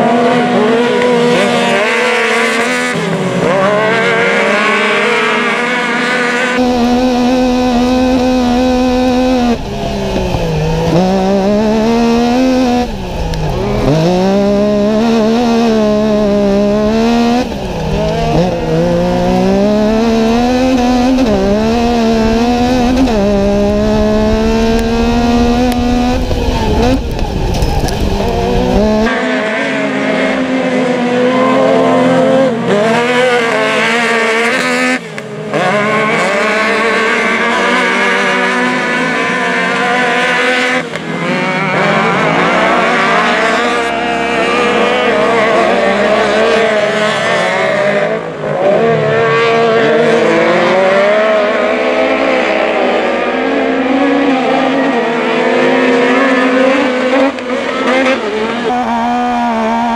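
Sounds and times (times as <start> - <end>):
engine revving from cockpit: 0.0 - 59.9
racing engines from trackside: 0.0 - 59.9.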